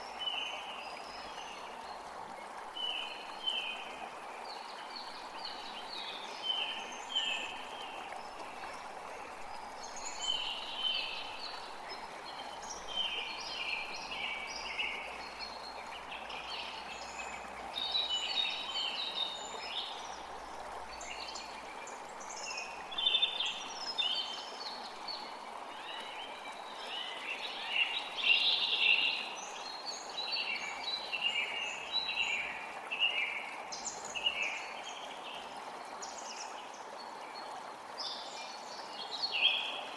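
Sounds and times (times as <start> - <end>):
creek rushing: 0.0 - 39.9
songbirds chirping: 0.0 - 39.9.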